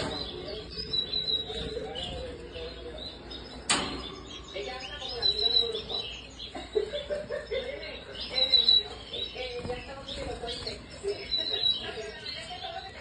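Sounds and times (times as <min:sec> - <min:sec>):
canaries chirping and twittering: 0:00.0 - 0:13.0
high bird trills: 0:00.0 - 0:13.0.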